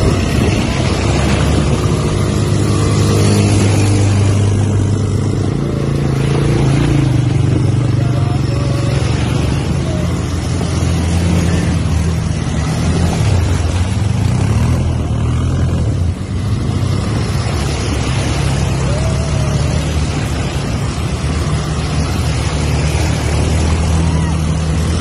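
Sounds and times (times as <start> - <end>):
quad bike engines droning: 0.0 - 25.0
water splashing and rushing: 0.0 - 25.0.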